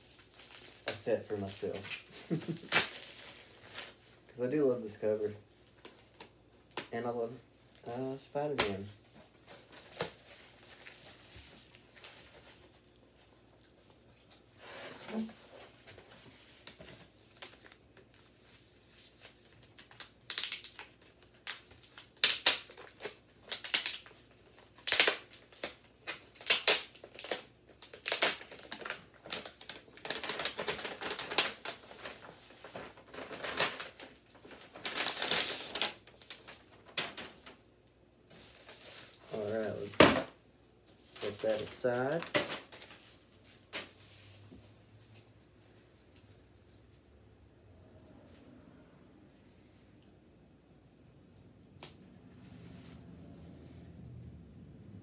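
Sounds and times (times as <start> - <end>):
bubble wrap and paper rustling: 0.0 - 47.1.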